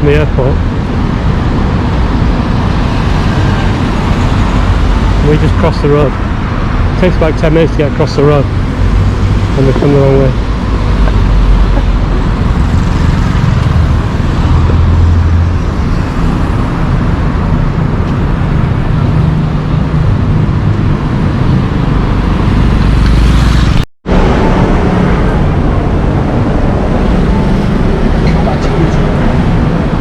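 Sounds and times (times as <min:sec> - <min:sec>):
cars passing on busy road: 0:00.0 - 0:30.0
deep traffic rumble: 0:00.0 - 0:30.0.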